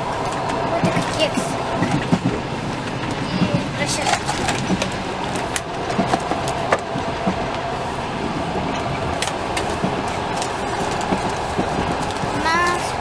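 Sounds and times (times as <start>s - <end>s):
train carriage running noise: 0.0s - 13.0s.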